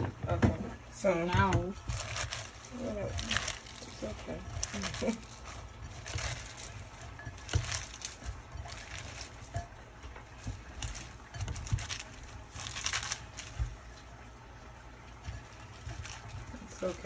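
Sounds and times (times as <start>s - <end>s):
salad leaves rustling in bowl: 0.7s - 17.0s.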